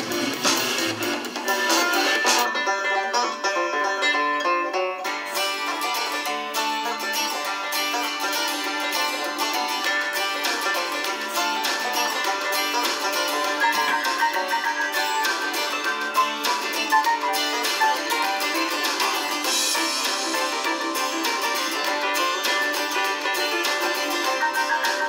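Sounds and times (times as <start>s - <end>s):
bluegrass banjo music: 0.0s - 25.0s.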